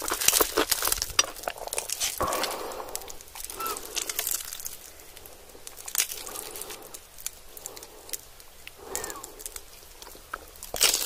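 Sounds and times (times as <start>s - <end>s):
sticky crackles of crispy coating: 0.0s - 11.0s.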